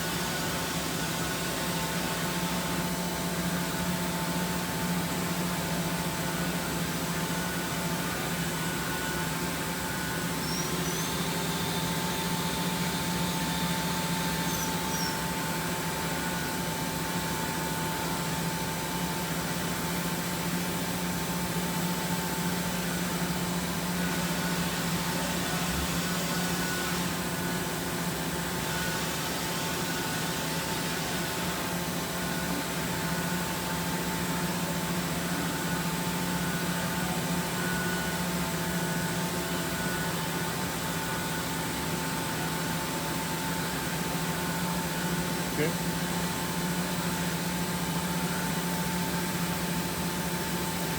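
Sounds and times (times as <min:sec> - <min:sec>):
faint machine whine: 0:00.0 - 0:50.9.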